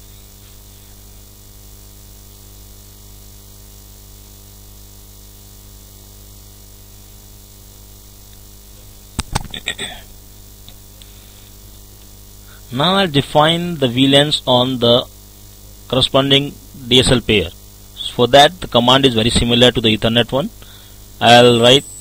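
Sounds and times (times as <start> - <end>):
electrical mains hum with hiss: 0.0 - 22.0.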